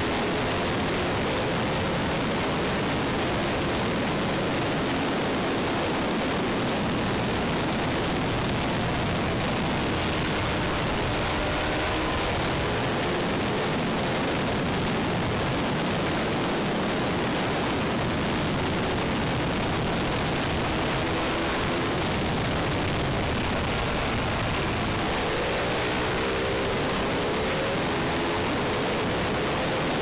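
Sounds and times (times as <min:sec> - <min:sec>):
motorcycle engine: 0:00.0 - 0:30.0
wind roar on microphone: 0:00.0 - 0:30.0.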